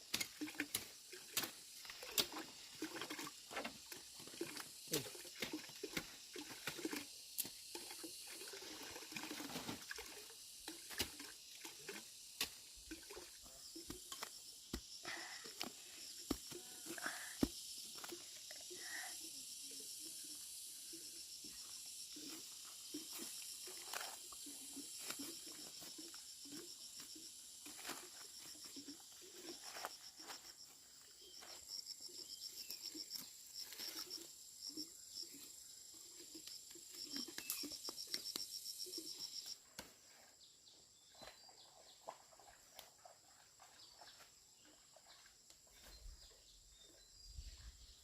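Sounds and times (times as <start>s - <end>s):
insects chirring: 0.0s - 48.0s.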